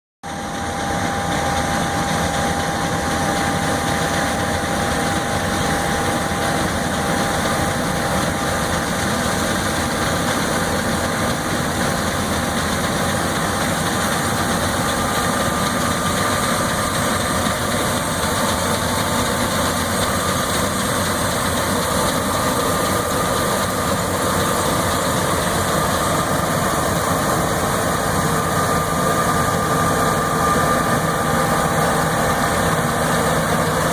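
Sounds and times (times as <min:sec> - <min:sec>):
combine harvester engine running: 0:00.3 - 0:33.9.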